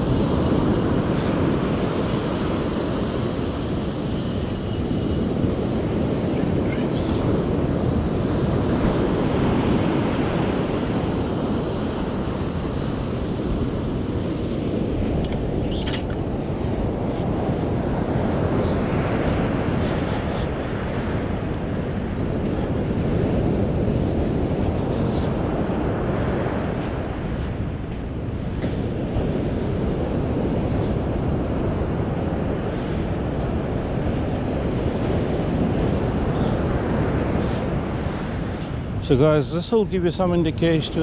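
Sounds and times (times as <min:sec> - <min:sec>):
ocean surf on beach: 0:00.0 - 0:41.0
wind rumbling on microphone: 0:00.0 - 0:41.0.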